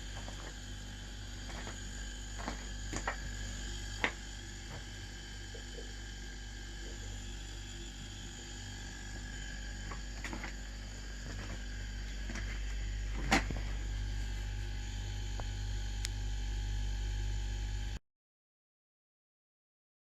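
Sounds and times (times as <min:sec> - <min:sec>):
air compressor humming: 0:00.0 - 0:17.9.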